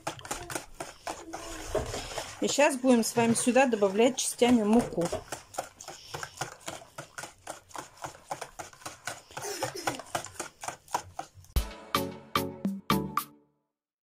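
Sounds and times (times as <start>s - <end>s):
whisk beating batter in bowl: 0.0s - 11.6s.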